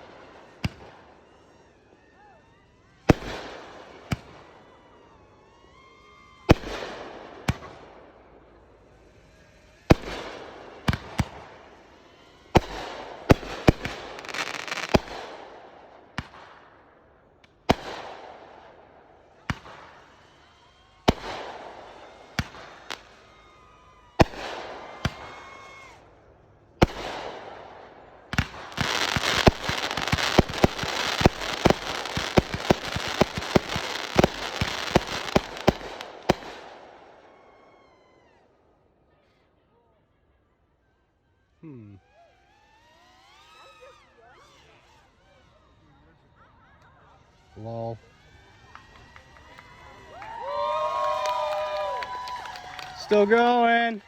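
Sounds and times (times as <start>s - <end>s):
rapid fireworks pops: 0.0s - 38.2s, 46.8s - 54.0s
fireworks crackling: 0.0s - 38.3s, 41.3s - 54.0s
fireworks bangs: 0.0s - 38.5s, 47.2s - 54.0s.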